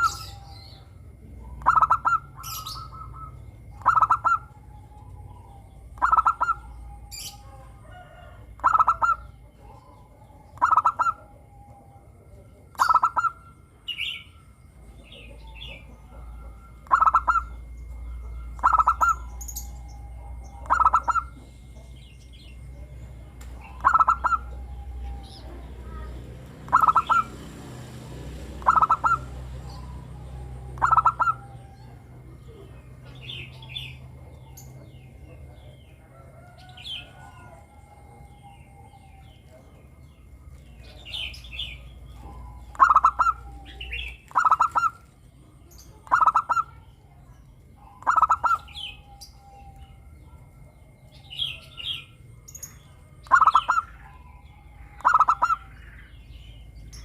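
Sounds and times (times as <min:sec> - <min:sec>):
doves cooing: 0:00.0 - 0:57.0
small birds chirping: 0:00.0 - 0:57.0.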